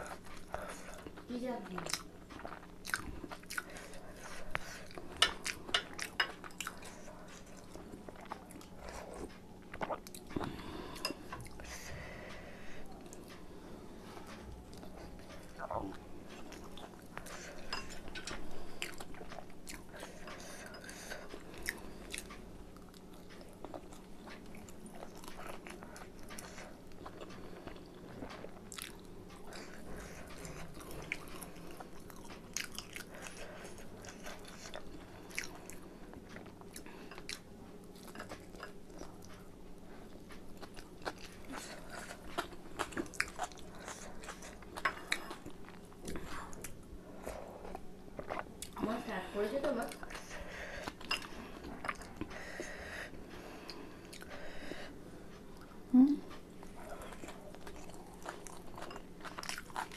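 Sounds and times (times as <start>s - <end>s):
close chewing and mouth smacks: 0.0s - 13.6s, 14.2s - 49.0s, 49.7s - 59.9s
faint steady hum: 0.0s - 59.9s.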